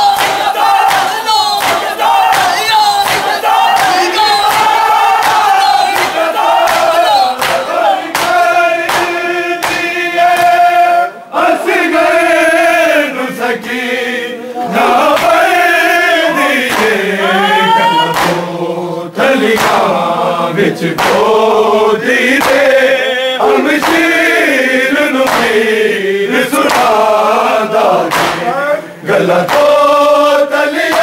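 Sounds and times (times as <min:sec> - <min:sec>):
men chanting together: 0:00.0 - 0:31.0.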